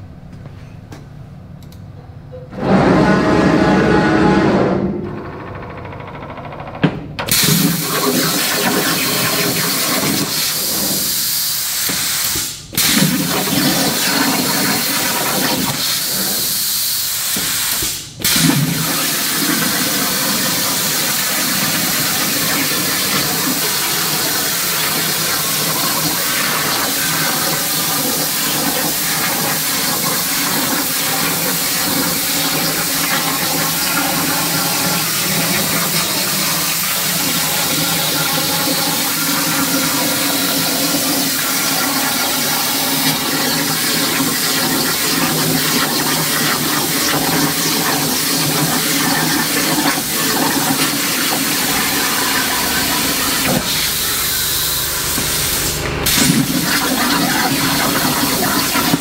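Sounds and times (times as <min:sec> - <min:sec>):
plasma torch hissing: 0:07.3 - 0:59.0.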